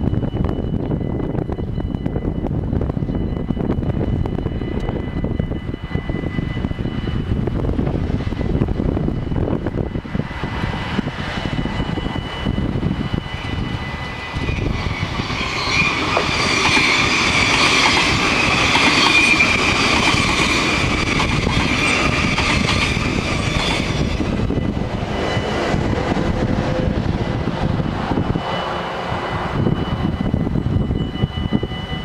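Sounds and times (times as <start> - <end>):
low wind rumble: 0.0 - 32.0
train wheels clattering on rails: 0.0 - 32.0.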